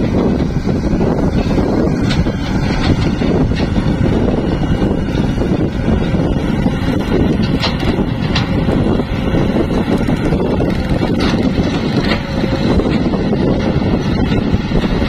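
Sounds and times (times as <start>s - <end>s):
dump truck pulling away: 0.0s - 15.0s
excavator diesel engine digging: 0.0s - 15.0s
wind buffeting microphone: 0.0s - 15.0s.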